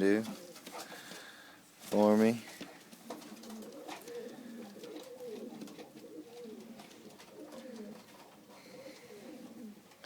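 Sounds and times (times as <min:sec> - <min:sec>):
pigeons cooing: 0:00.0 - 0:01.4, 0:02.5 - 0:10.0.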